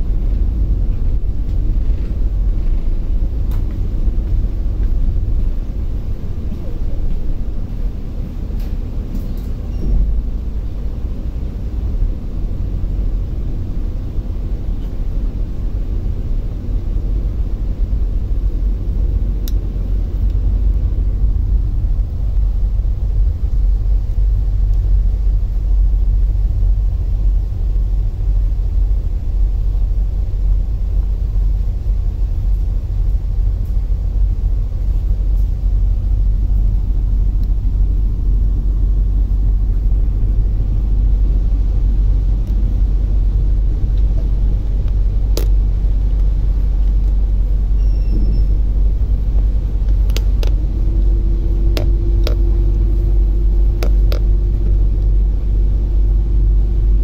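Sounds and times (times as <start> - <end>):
ferry engines rumbling: 0.0 - 57.0.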